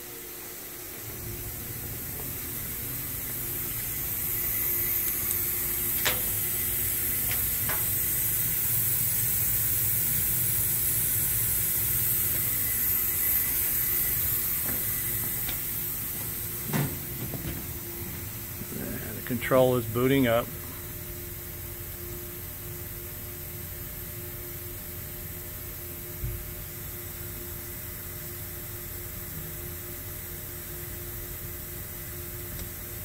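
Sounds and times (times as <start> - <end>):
cooling fans rushing air: 0.0 - 33.0
faint steady hum: 0.0 - 33.0.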